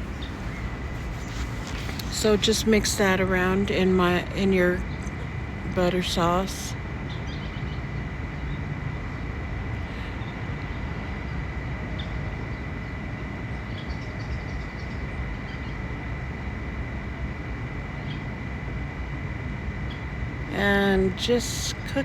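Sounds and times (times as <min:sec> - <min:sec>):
kitchen fan whirring: 0:00.0 - 0:22.0.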